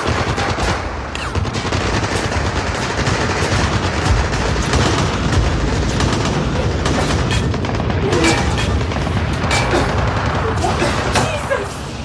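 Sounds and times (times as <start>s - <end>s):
rapid continuous gunfire: 0.0s - 12.0s.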